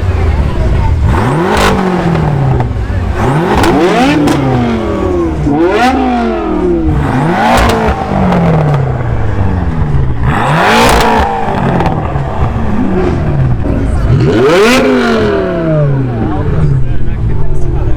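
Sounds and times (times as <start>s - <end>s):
car engine revving: 0.0s - 17.9s
exhaust crackles: 0.0s - 17.9s.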